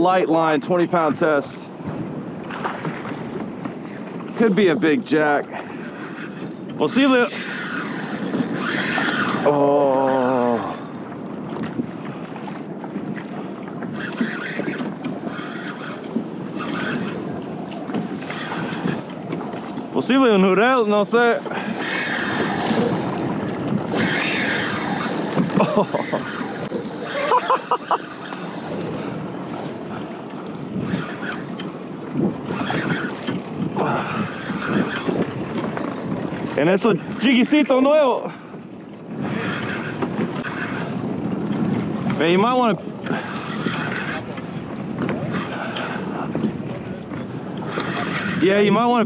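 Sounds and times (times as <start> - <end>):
choppy water washing around kayak: 0.0 - 49.0
wind buffeting microphone: 0.0 - 49.0.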